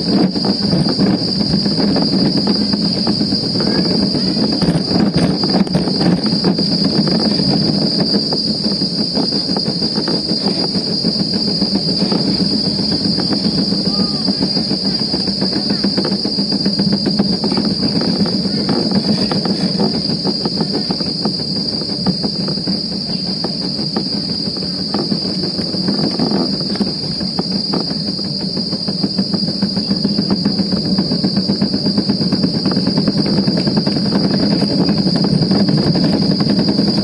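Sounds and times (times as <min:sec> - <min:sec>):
high-pitched whine: 0:00.0 - 0:37.0
luge cart wheels rattling: 0:00.0 - 0:37.0.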